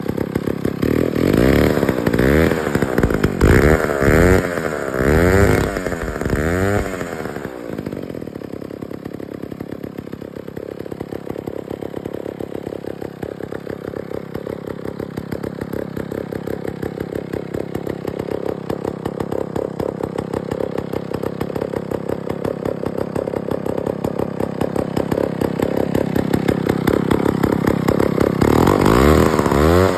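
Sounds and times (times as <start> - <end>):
chainsaw engine revving and idling: 0.0 - 29.9.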